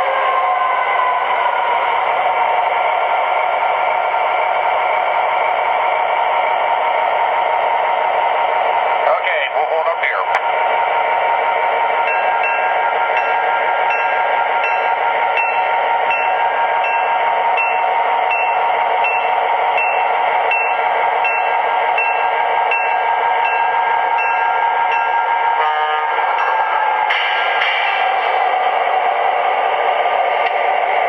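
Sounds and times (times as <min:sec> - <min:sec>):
model locomotive engine drone: 0:00.0 - 0:31.0.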